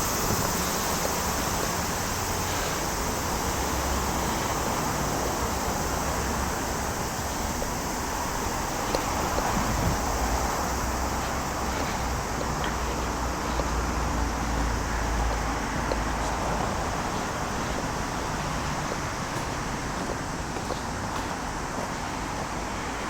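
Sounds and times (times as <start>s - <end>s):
wind buffeting microphone: 0.0s - 21.7s
distant road traffic: 0.0s - 23.0s.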